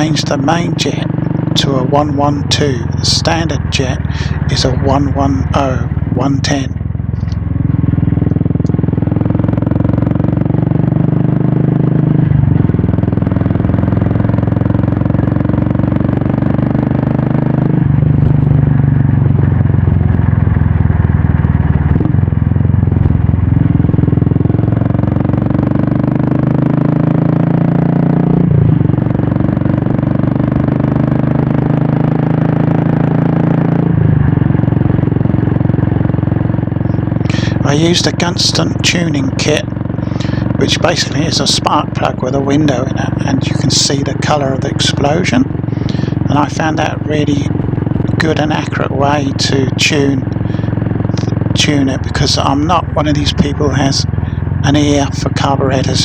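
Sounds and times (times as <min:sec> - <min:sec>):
motorcycle engine exhaust note: 0:00.0 - 0:56.0.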